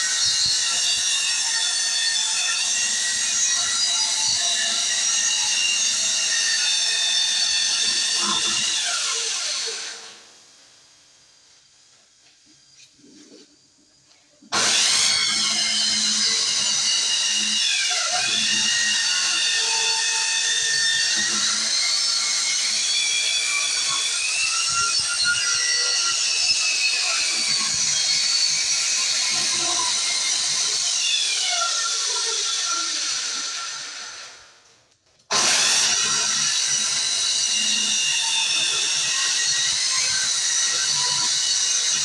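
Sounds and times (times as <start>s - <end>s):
circular saw cutting wood: 0.0s - 10.3s, 14.5s - 34.6s, 35.3s - 42.0s.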